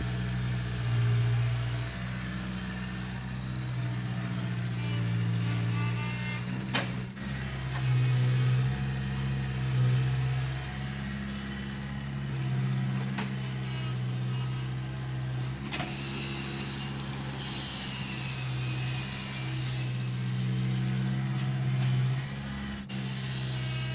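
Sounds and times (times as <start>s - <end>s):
diesel engine humming: 0.0s - 23.9s.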